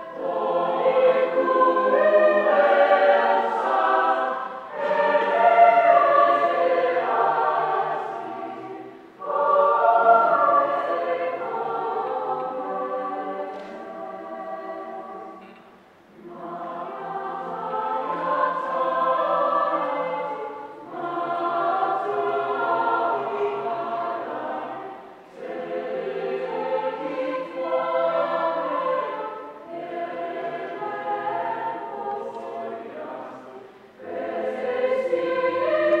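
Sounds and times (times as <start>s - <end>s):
mixed choir singing: 0.0s - 36.0s.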